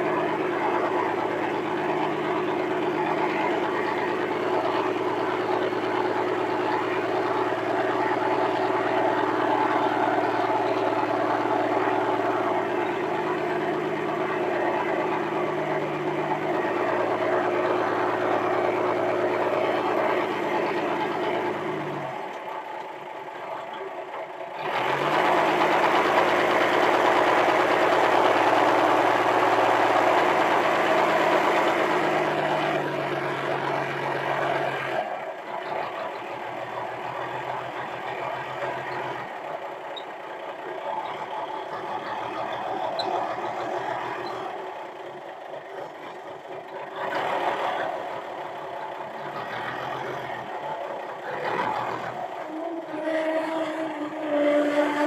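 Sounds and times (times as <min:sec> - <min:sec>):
forklift engine revving: 0:00.0 - 0:55.0.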